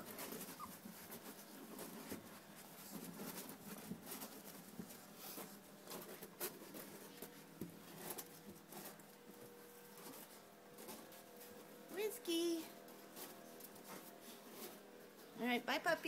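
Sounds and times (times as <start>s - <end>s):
puppies rustling and clicking: 0.0s - 15.3s.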